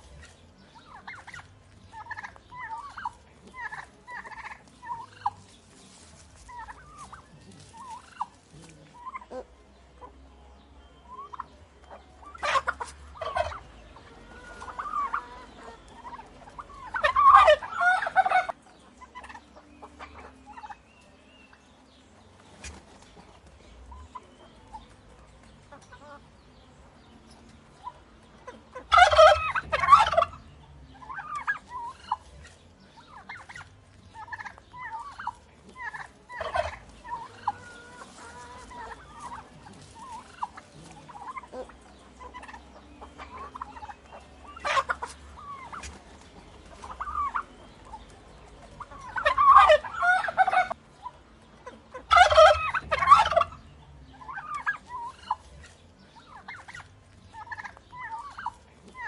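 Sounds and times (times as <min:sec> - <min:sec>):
soft turkey calls: 0:00.0 - 0:26.5, 0:27.2 - 0:59.0
turkeys gobbling: 0:00.0 - 0:59.0.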